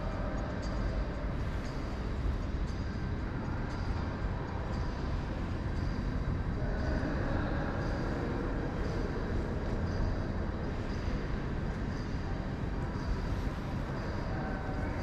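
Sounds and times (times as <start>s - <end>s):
low rumbling hall noise: 0.0s - 15.0s.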